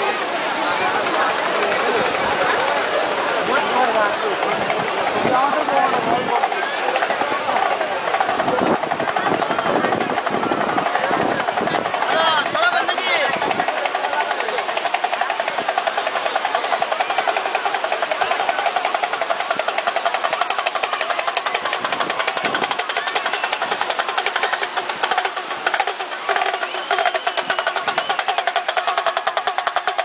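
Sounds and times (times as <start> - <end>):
music with fast percussive beat: 4.4 - 30.0.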